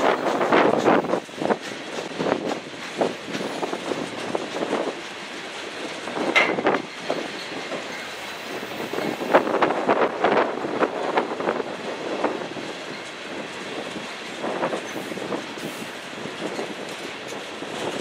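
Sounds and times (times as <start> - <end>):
freight train rumbling past: 0.0 - 18.0
wheels clicking over rail joints: 0.0 - 18.0.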